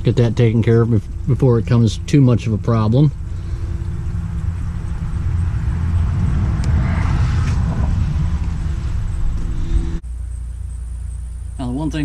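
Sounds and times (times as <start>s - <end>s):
diesel engine running: 0.0s - 12.0s
quiet hum: 0.0s - 12.0s.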